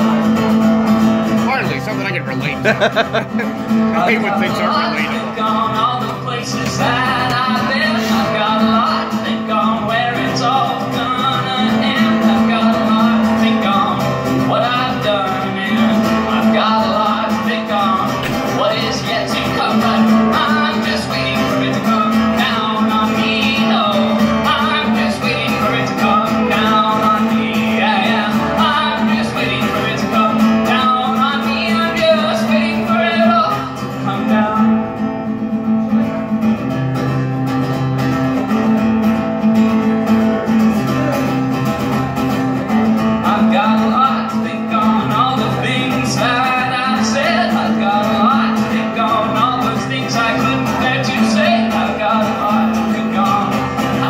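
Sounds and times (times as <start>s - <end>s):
man singing: 0.0s - 36.4s, 42.6s - 54.0s
acoustic guitar: 0.0s - 54.0s.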